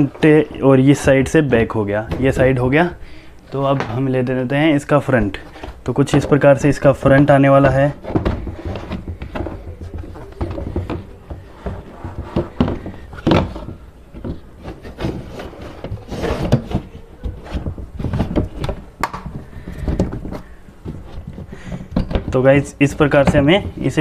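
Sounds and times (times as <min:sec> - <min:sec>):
plastic panels knocking and rubbing: 0:00.0 - 0:02.9, 0:03.6 - 0:24.0.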